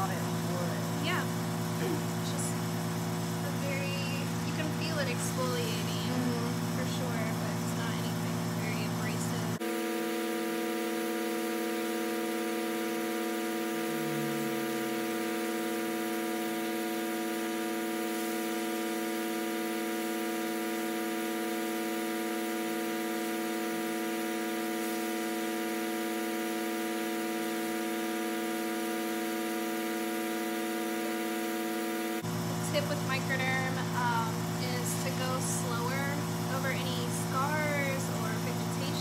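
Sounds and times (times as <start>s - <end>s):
suction pump electric hum: 0.0s - 39.0s.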